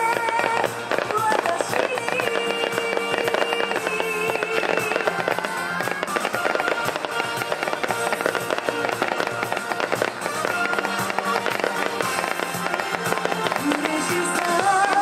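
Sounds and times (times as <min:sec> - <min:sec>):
fireworks crackling and popping: 0:00.0 - 0:15.0
music playing: 0:00.0 - 0:15.0.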